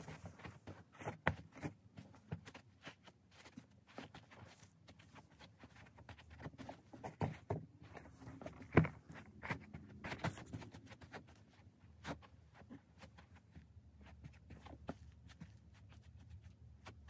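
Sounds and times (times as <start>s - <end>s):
clogs scuffing on carpet: 0.0s - 17.0s.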